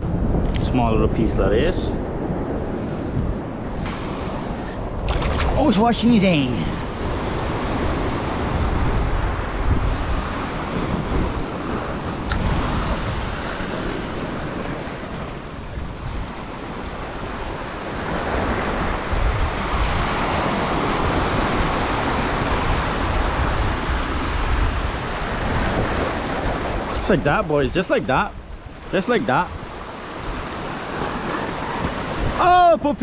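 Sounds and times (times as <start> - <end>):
wind buffeting microphone: 0.0 - 33.0
ocean surf washing over rocks: 0.1 - 33.0.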